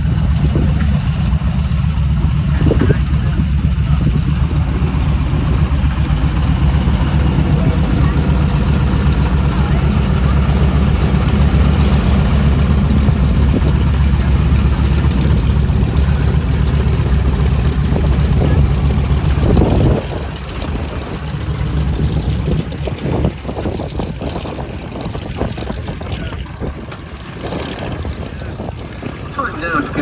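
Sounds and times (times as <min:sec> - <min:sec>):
propeller aircraft engine rumbling: 0:00.0 - 0:30.0.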